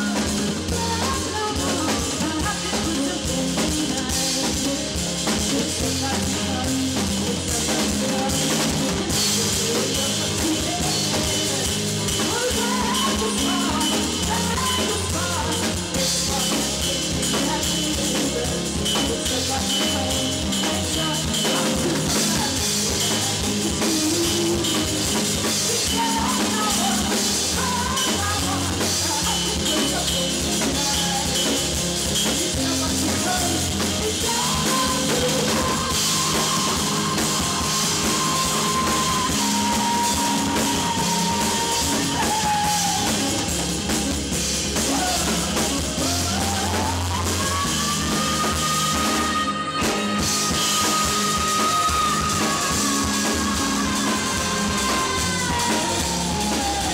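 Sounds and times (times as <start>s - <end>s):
bass guitar: 0.0s - 56.9s
drum kit: 0.0s - 56.9s
woman singing: 0.0s - 56.9s.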